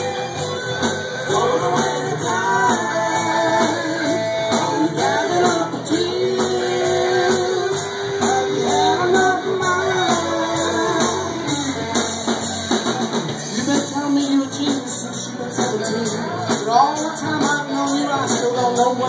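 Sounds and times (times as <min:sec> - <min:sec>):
drums with cymbal beat: 0:00.0 - 0:19.0
lead guitar line: 0:00.0 - 0:19.0
strummed guitars: 0:00.0 - 0:19.0.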